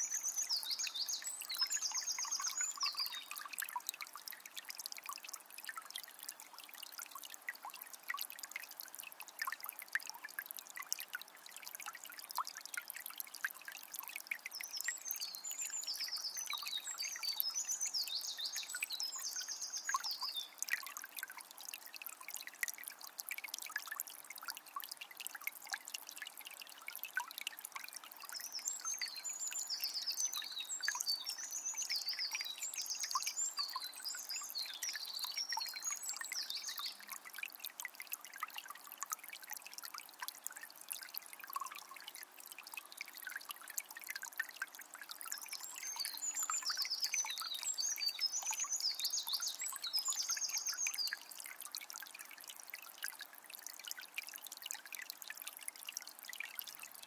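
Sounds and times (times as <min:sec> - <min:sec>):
river trickling over stones: 0:00.0 - 0:57.0.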